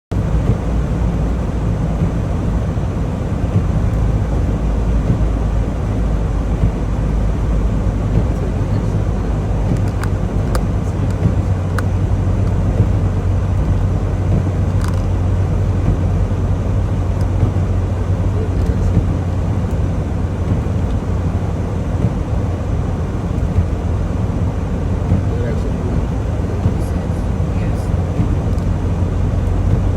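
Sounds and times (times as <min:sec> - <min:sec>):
road noise: 0:00.0 - 0:29.9
truck engine drone: 0:00.1 - 0:29.9.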